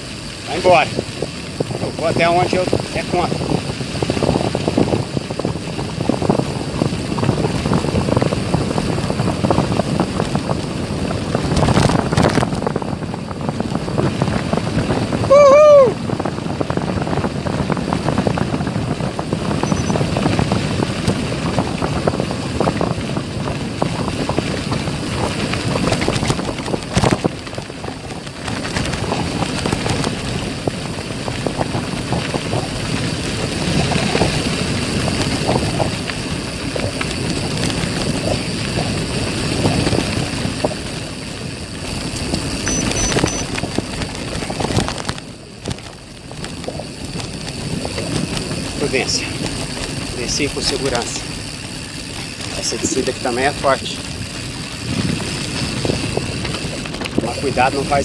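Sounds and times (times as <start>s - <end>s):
bike rattling: 0.0s - 58.0s
tyres rumbling over rough ground: 0.0s - 58.0s
wind noise on microphone: 0.0s - 58.0s.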